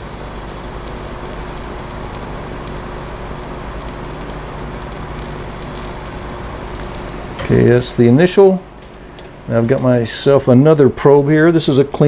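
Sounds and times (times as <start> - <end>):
small crackles: 0.0 - 10.3
torch flame hissing: 0.0 - 12.0.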